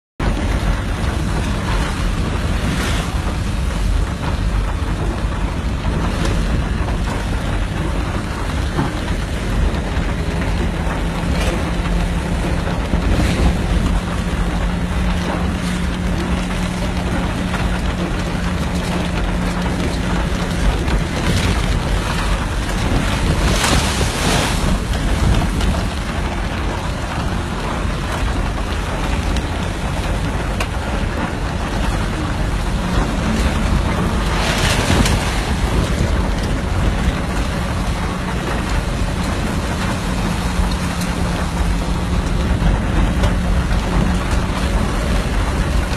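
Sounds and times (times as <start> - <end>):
heavy rain: 0.2 - 45.9
wind buffeting microphone: 0.2 - 45.9.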